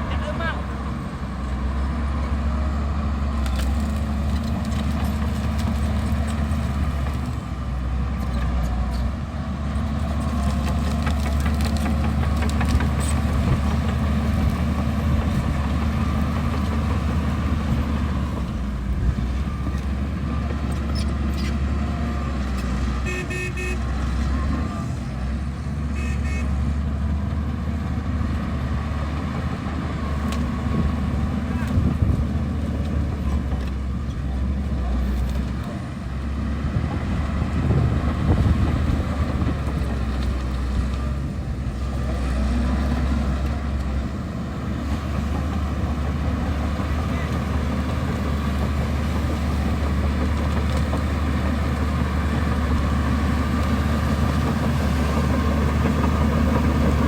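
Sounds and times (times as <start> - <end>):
heavy diesel machinery engine: 0.0 - 57.0.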